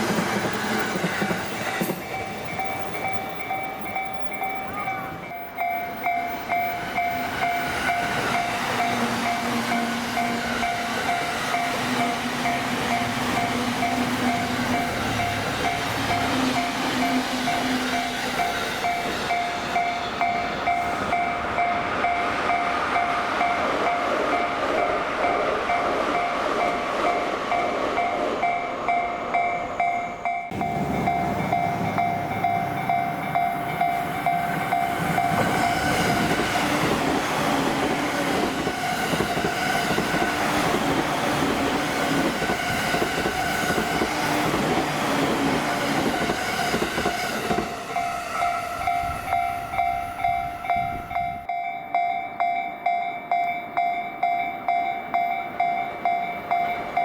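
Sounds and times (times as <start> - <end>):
train wheels rumbling and clattering: 0.0 - 51.6
level-crossing bell clanging: 0.0 - 57.0.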